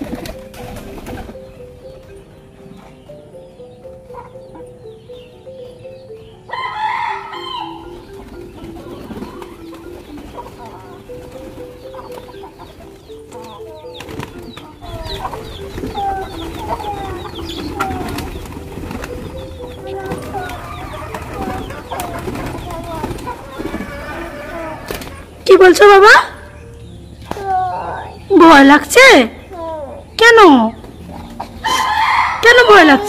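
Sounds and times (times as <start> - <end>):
chickens clucking and calling: 0.0 - 33.0
soft background tune: 0.0 - 33.0.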